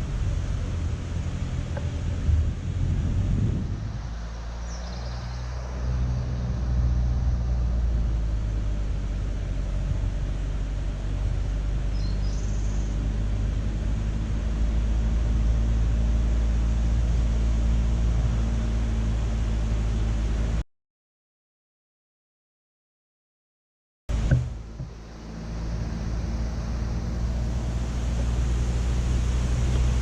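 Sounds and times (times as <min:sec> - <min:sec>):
car engine and tyre hum: 0:00.0 - 0:20.6, 0:24.1 - 0:30.0.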